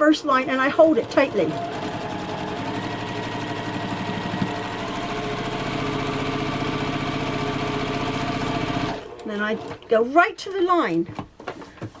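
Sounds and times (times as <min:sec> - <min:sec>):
sewing machine stitching: 0:00.0 - 0:10.0.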